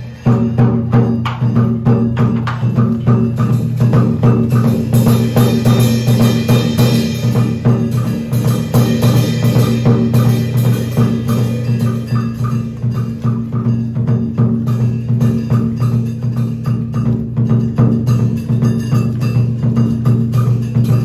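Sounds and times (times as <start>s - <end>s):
drum and wood-block strokes: 0.0s - 21.0s.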